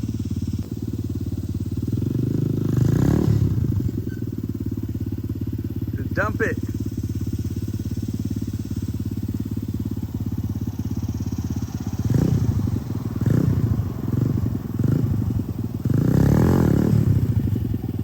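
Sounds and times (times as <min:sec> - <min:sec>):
motorbike engine idling and revving: 0:00.0 - 0:18.0.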